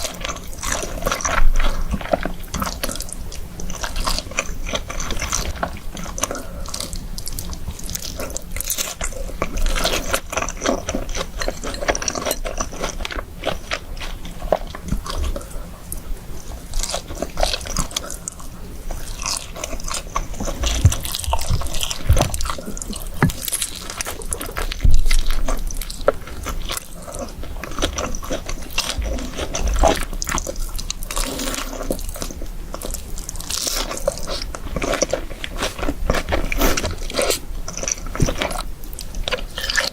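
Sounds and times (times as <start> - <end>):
crunchy eating and chewing: 0.0 - 39.9.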